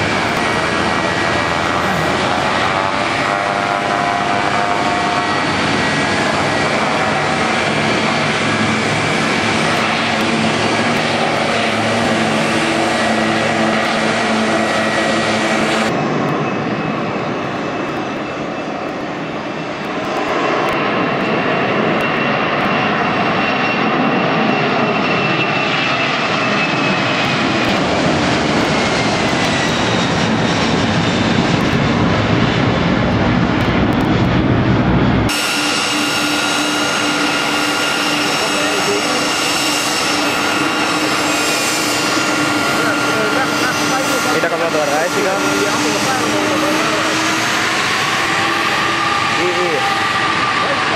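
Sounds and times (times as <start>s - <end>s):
jet airliner roar: 0.0s - 50.9s
propeller plane engines humming: 0.0s - 50.9s.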